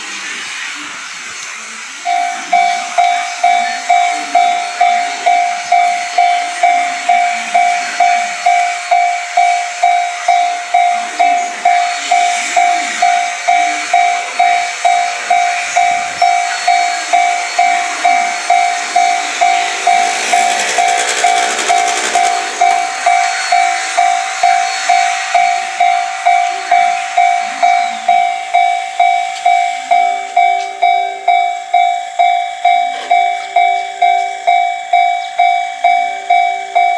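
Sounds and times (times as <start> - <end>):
train passing rumble: 0.0 - 36.9
level-crossing warning bell ringing: 2.0 - 36.9.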